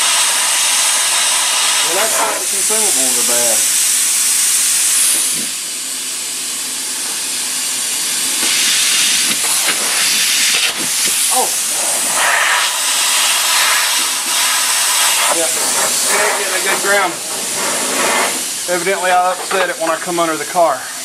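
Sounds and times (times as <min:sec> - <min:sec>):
compressed air hissing: 0:00.0 - 0:21.0.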